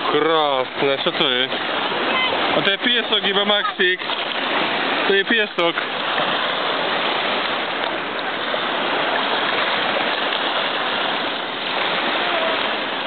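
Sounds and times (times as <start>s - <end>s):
seawater washing and lapping: 0.0s - 13.0s.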